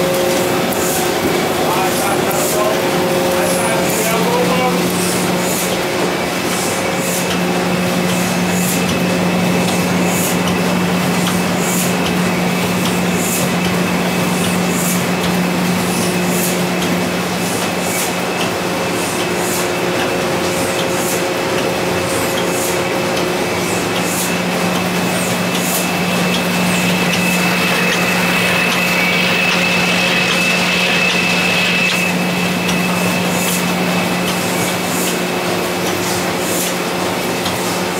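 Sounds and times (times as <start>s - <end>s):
printing press drone: 0.0s - 37.9s.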